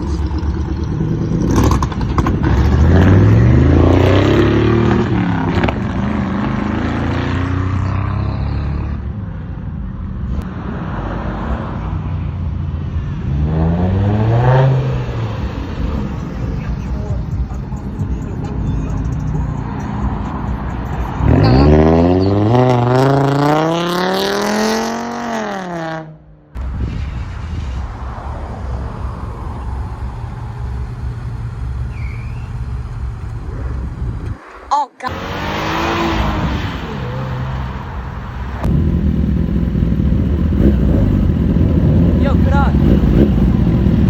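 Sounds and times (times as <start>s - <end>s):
car engine accelerating: 0.0s - 9.5s, 10.1s - 44.0s.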